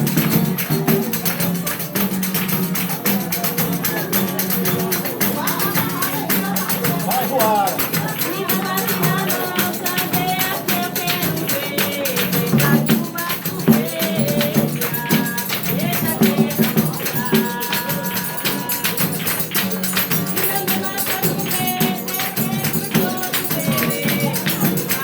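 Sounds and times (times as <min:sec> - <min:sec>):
fast percussion rhythm: 0:00.0 - 0:25.0
person singing: 0:00.0 - 0:25.0.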